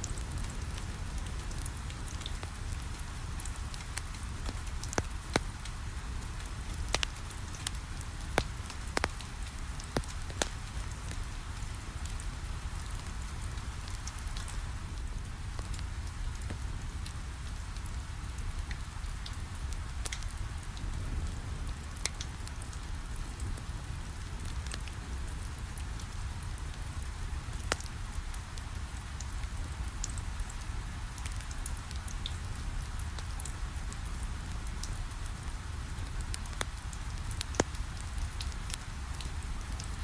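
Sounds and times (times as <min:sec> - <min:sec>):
fireplace fire crackling: 0:00.0 - 0:40.0.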